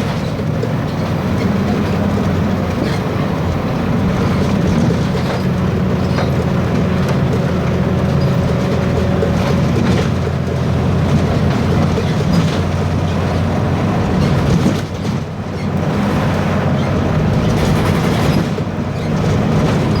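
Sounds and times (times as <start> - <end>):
bus body rattles: 0.0 - 20.0
bus diesel engine drone: 0.0 - 20.0.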